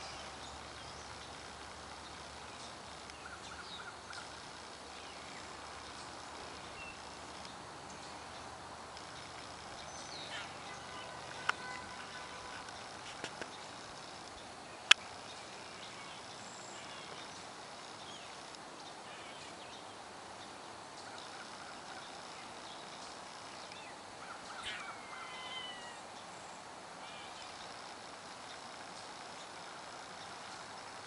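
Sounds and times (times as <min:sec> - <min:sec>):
faint distant birdsong: 0:00.0 - 0:31.0.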